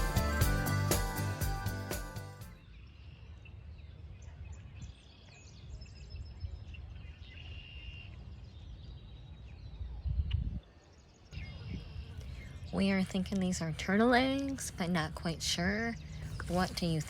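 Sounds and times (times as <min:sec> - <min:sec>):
small birds chirping: 0:02.6 - 0:17.0
wind rumble on microphone: 0:02.7 - 0:17.0.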